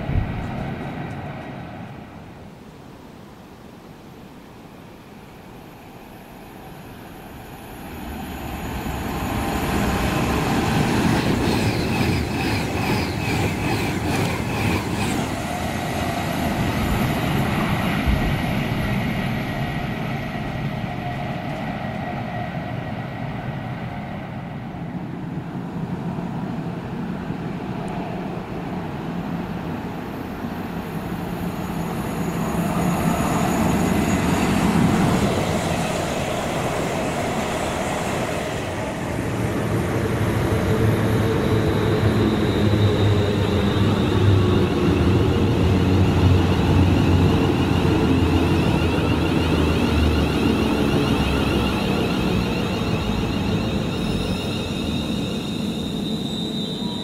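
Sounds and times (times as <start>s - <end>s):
train wheels rumbling on rails: 7.4s - 57.0s.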